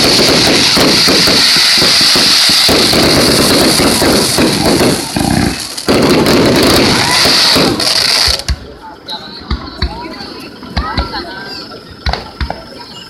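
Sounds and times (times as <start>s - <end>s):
fireworks bursts and crackles: 0.0s - 13.0s.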